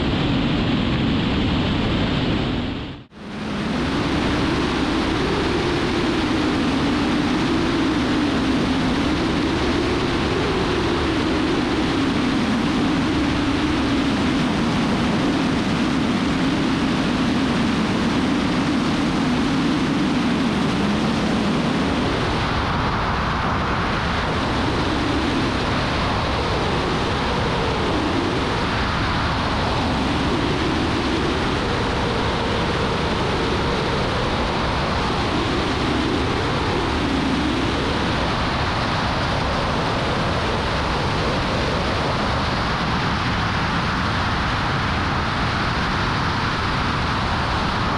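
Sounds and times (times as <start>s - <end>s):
light airplane engine drone: 0.0s - 47.9s.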